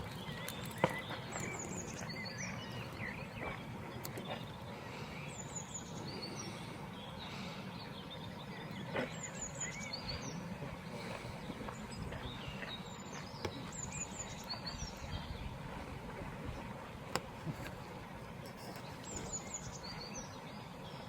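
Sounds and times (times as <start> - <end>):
small birds calling: 0.0 - 15.9, 16.5 - 21.0.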